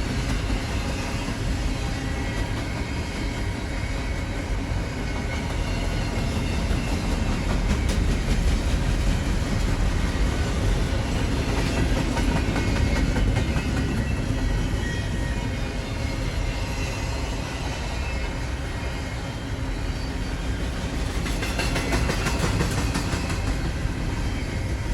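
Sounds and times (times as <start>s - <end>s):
clicks of train wheels: 0.0s - 18.6s, 20.1s - 24.7s
freight train wheels rumbling: 0.0s - 24.9s.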